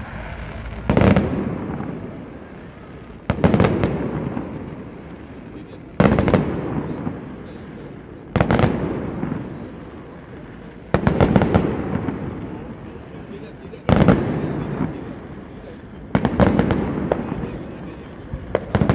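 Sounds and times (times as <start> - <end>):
fireworks bangs: 0.0 - 18.9
fireworks crackling: 0.0 - 18.9.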